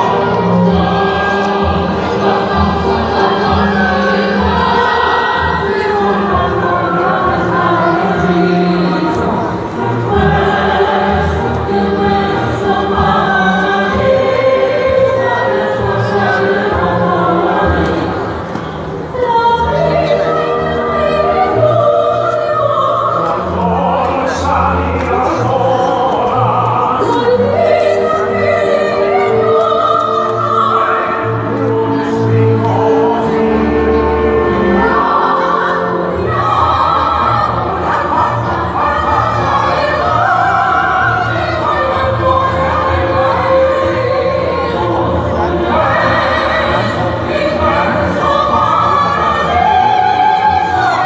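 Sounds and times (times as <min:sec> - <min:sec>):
man and woman singing together: 0:00.0 - 0:18.3, 0:19.1 - 0:51.0
backing music: 0:00.0 - 0:51.0.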